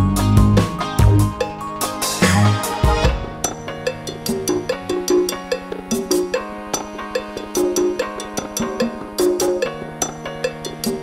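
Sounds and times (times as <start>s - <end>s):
song with percussion hits: 0.0s - 11.0s.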